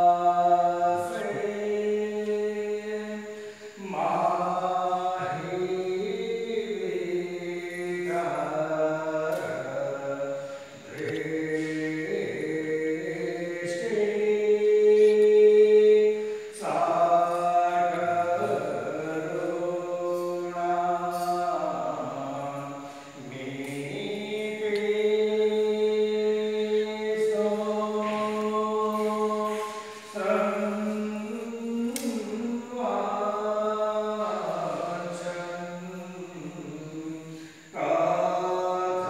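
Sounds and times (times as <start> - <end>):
devotional chanting voices: 0.0 - 39.0.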